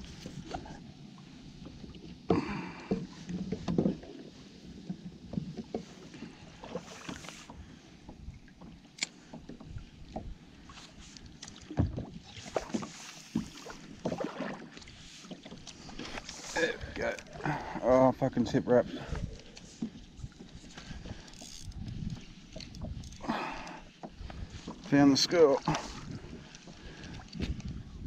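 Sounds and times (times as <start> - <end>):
small waves lapping against hull: 0.0 - 28.0.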